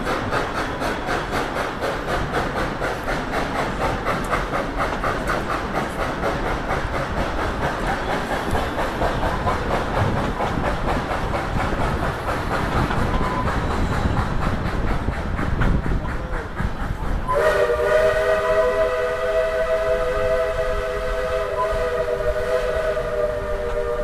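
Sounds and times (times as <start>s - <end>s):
hissing steam: 0.0s - 24.0s
steam train chuffing: 0.0s - 24.0s
train cars rattling: 0.0s - 24.0s.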